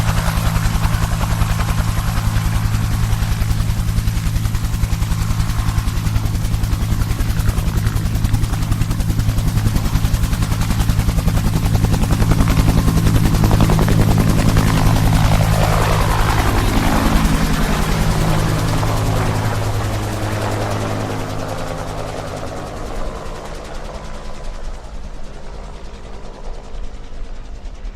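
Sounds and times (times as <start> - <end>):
low engine drone: 0.0 - 22.6
helicopter rotor chop: 0.0 - 27.9.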